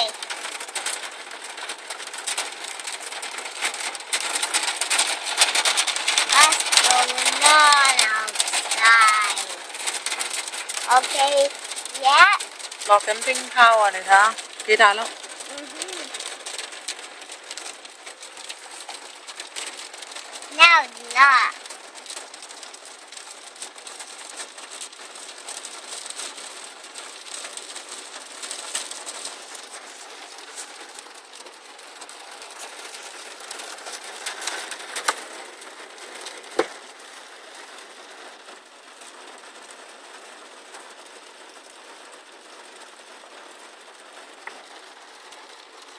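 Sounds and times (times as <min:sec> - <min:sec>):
heavy rain on a car: 0:00.0 - 0:45.9.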